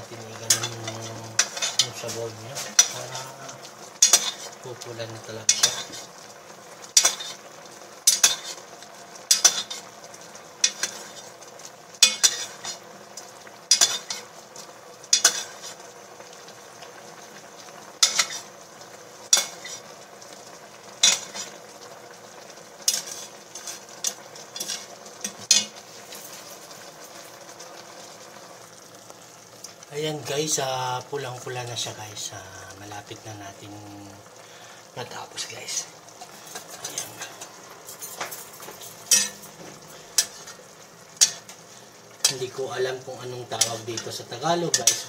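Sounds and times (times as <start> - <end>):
sauce bubbling: 0.0 - 45.0.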